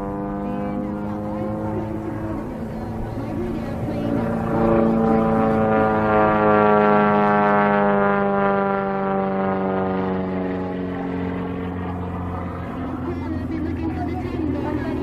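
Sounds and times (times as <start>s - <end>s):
propeller plane flying overhead: 0.0s - 15.0s.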